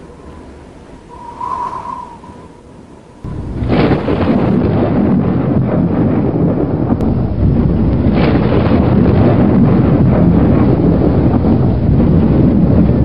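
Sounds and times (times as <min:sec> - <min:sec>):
loud rumbling noise: 0:00.0 - 0:13.0.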